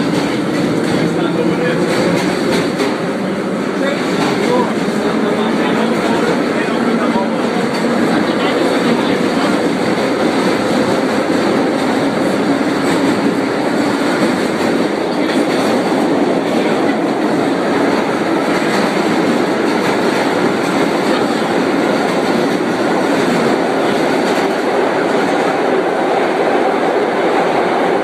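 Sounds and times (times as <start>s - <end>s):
subway wheels rumbling on rails: 0.0s - 28.0s.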